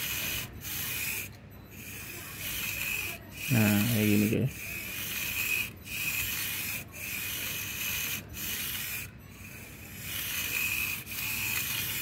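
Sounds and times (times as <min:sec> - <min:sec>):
toy car motor whining: 0:00.0 - 0:12.0.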